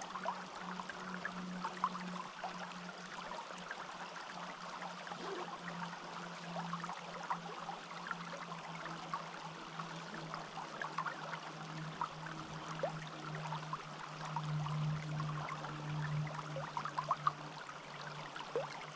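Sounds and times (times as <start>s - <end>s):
constant low tone: 0.0s - 18.9s
stream trickling and bubbling: 0.0s - 18.9s.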